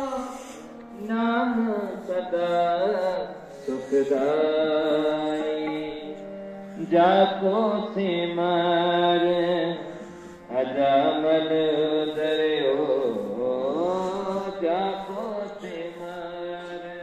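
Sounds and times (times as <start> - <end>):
person singing chant-like phrases: 0.0 - 17.0.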